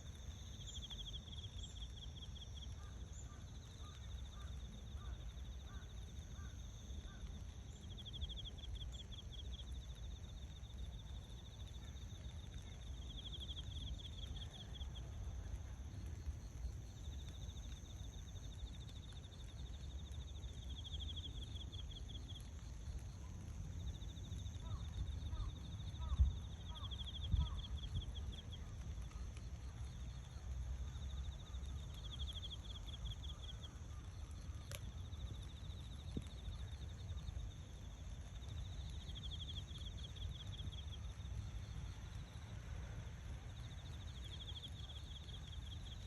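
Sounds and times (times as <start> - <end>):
low outdoor rumble: 0.0 - 46.0
insects trilling: 0.1 - 42.7, 43.5 - 46.0.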